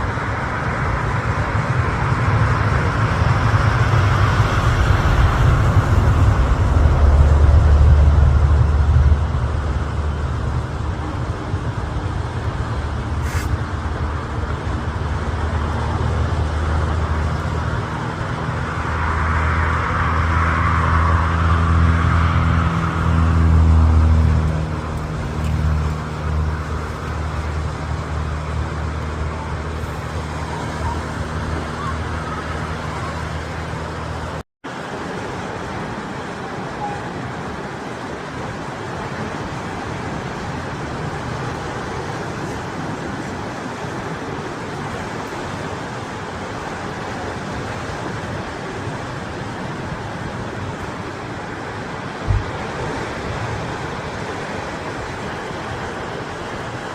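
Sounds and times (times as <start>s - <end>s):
low traffic rumble: 0.0s - 56.9s
vehicles passing: 0.0s - 56.9s.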